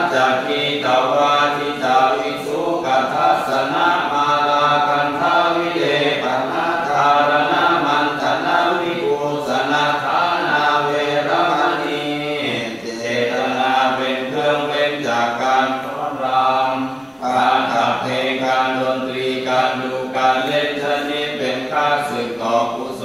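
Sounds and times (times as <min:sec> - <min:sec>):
voices chanting: 0:00.0 - 0:23.0.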